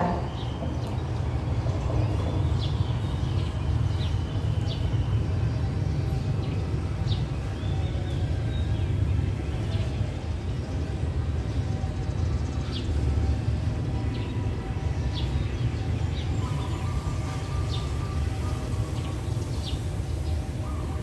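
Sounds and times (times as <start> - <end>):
birds chirping: 0.0 - 21.0
distant diesel locomotive rumble: 0.0 - 21.0.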